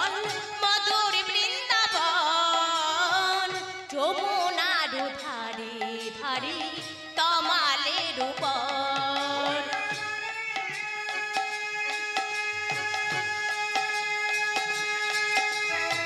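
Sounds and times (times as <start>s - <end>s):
drums beating steady rhythm: 0.0s - 16.0s.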